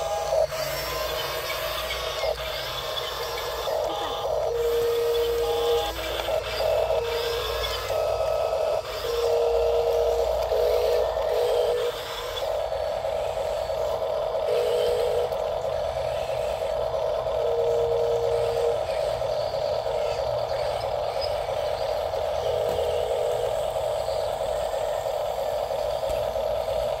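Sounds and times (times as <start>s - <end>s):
lower motor whine: 0.0s - 27.0s
small electric motors whining: 0.0s - 27.0s.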